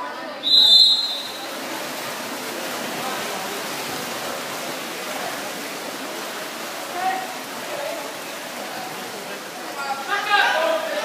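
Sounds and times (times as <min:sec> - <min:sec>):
swimmers splashing: 0:00.4 - 0:11.0.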